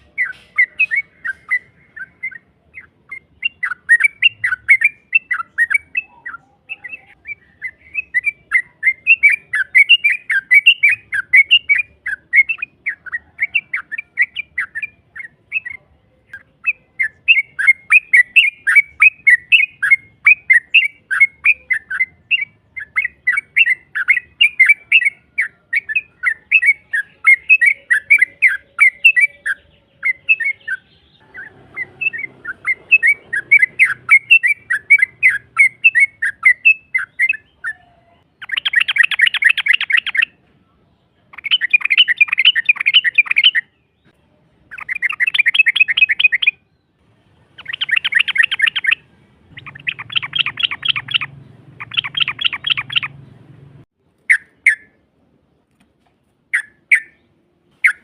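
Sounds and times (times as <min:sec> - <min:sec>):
bird chattering chirps: 0:00.0 - 0:40.4, 0:41.3 - 0:55.0, 0:56.5 - 0:58.0.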